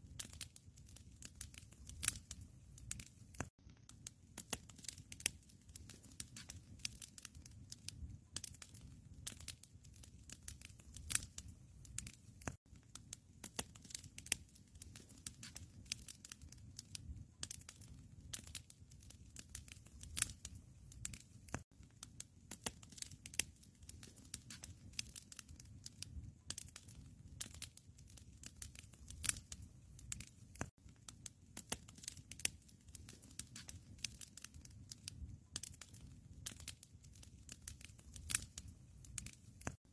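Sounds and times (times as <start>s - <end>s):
low rumble of flame: 0.0s - 39.9s
wood fire crackling and popping: 0.0s - 39.9s.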